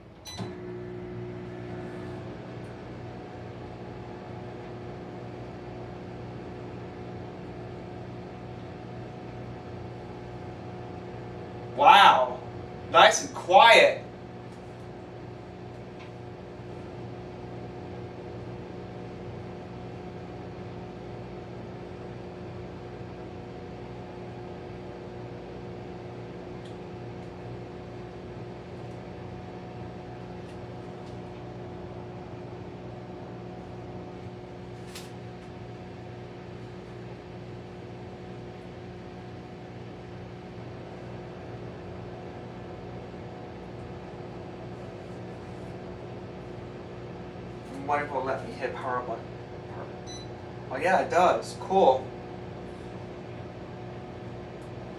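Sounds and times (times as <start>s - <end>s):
microwave oven humming: 0.0s - 54.9s.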